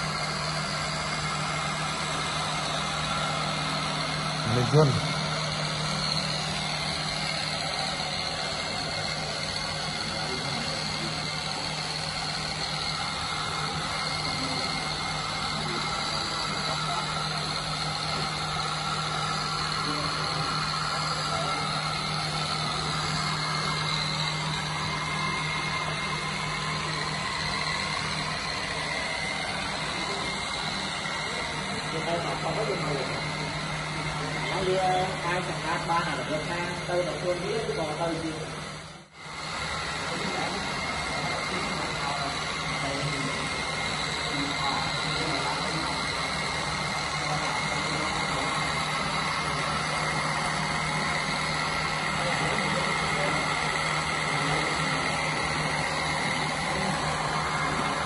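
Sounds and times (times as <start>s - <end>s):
high whine: 0.0s - 58.0s
robotic vacuum cleaner humming: 0.0s - 58.0s.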